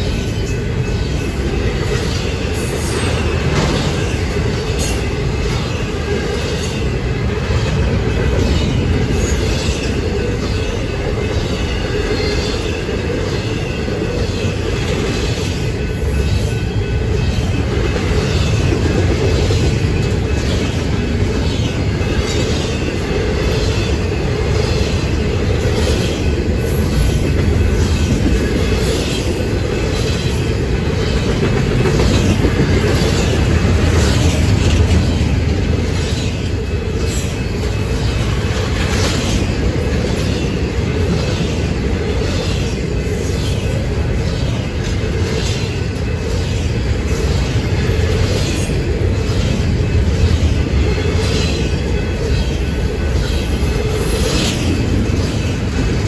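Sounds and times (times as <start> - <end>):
train wheels rumbling on rails: 0.0 - 56.0
wheels clicking over rail joints: 0.0 - 56.0.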